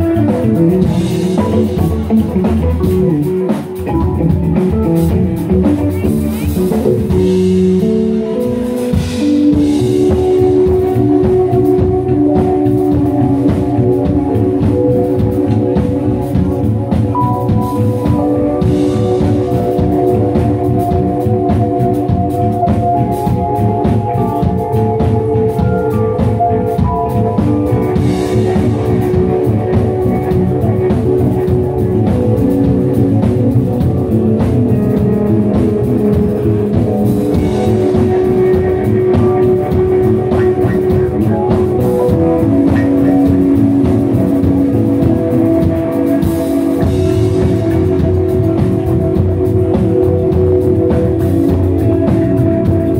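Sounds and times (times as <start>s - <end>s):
bass guitar: 0.0s - 52.9s
drum kit beat: 0.0s - 52.9s
electric guitar: 0.0s - 52.9s
keyboards: 0.0s - 52.9s.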